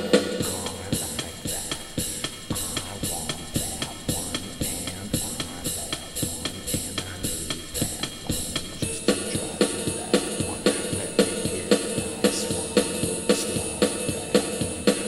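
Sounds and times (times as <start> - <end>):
music with drum beat: 0.0 - 15.0.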